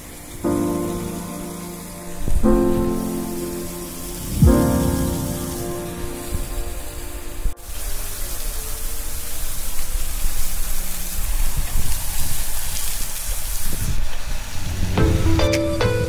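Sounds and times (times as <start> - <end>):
falling water hissing: 0.0 - 15.3.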